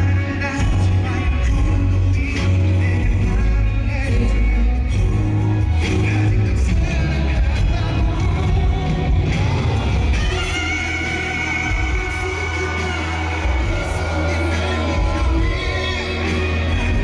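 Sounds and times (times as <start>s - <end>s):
man singing over pop track: 0.0s - 17.0s.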